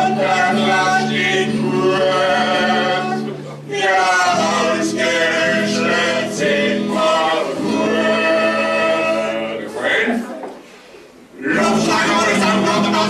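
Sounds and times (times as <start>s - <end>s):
men singing in parts: 0.0s - 10.2s, 11.4s - 13.0s.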